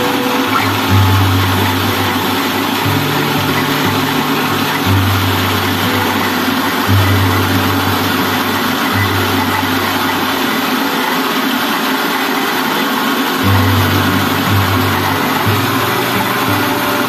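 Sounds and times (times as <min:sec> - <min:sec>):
rice milling machine running: 0:00.0 - 0:17.0
rice pouring hiss: 0:00.0 - 0:17.0.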